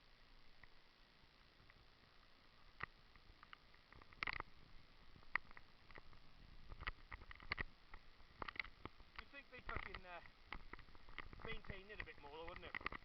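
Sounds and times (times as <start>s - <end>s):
low hiss: 0.0s - 13.0s.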